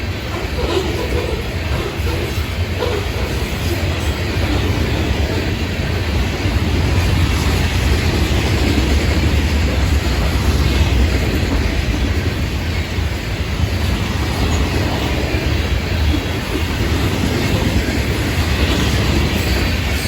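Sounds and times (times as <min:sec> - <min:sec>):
freight train rolling past: 0:00.0 - 0:20.0
wheels clacking over rails: 0:00.0 - 0:20.0.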